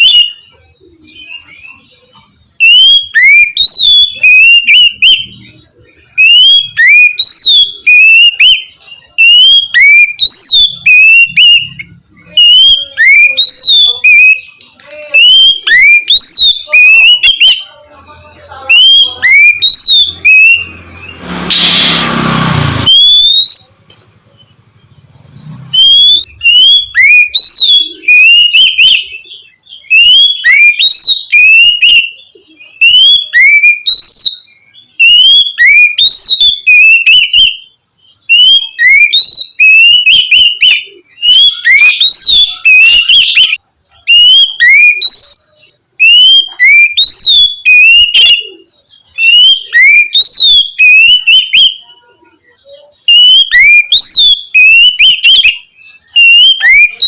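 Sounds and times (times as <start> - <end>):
bird singing whistled notes: 0.0 - 22.2, 22.8 - 57.0.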